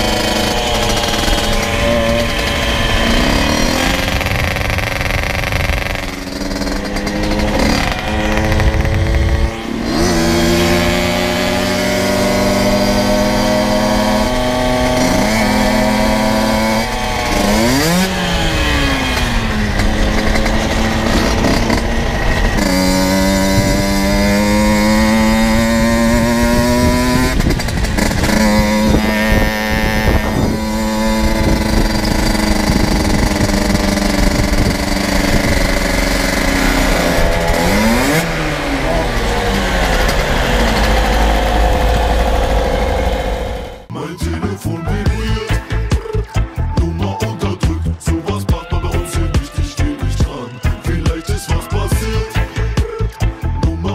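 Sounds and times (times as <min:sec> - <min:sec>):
wind noise: 0:00.0 - 0:43.9
moped engine revving: 0:00.0 - 0:53.9.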